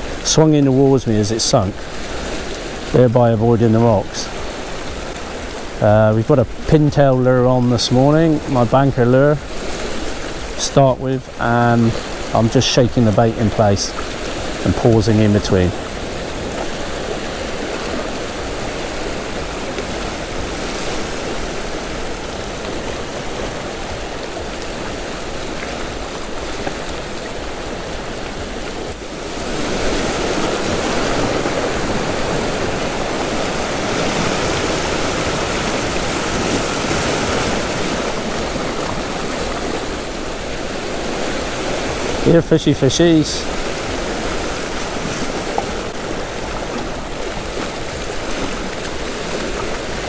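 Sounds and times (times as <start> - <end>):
surf breaking over rocks: 0.0 - 50.0.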